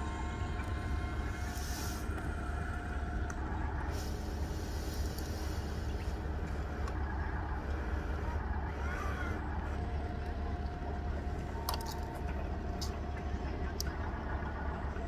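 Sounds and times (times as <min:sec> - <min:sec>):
toy truck motor droning: 0:00.0 - 0:12.8.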